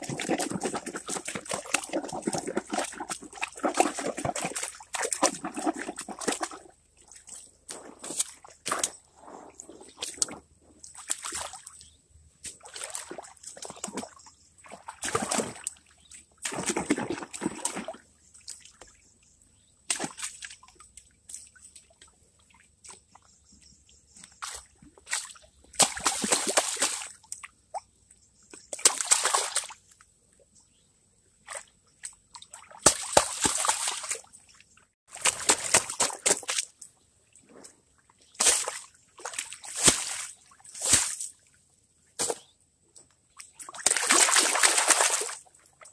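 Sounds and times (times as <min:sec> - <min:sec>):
water sloshing and splashing: 0:00.0 - 0:30.1, 0:31.4 - 0:41.6, 0:43.2 - 0:45.9.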